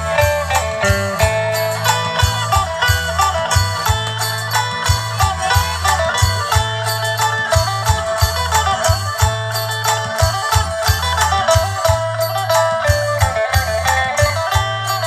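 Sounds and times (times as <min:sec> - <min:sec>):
plucked lute melody: 0:00.0 - 0:15.0
regular beat: 0:00.0 - 0:15.0.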